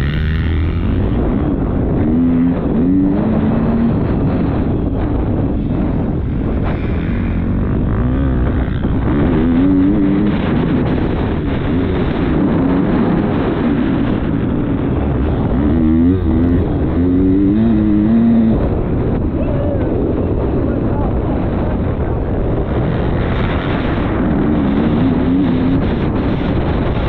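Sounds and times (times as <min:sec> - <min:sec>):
motocross bike engine revving: 0:00.0 - 0:19.0, 0:22.7 - 0:27.0.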